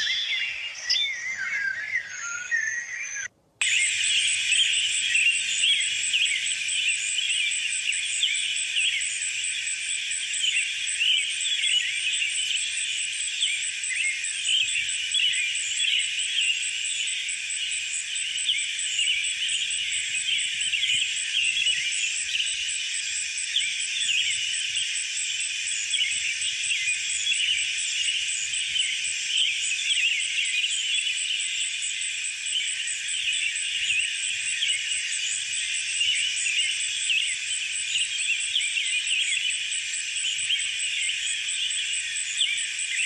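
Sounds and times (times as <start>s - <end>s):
birds chirping and twittering: 0.0s - 43.0s.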